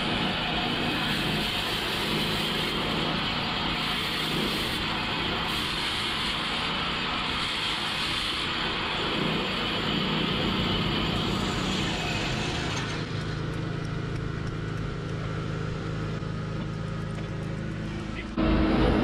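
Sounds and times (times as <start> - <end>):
cutting discs grinding stone: 0.0 - 18.3
low motor hum: 0.0 - 19.0.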